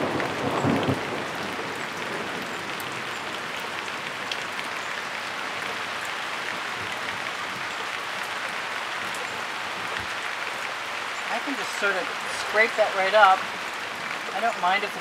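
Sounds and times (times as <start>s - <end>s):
heavy rain downpour: 0.0s - 15.0s.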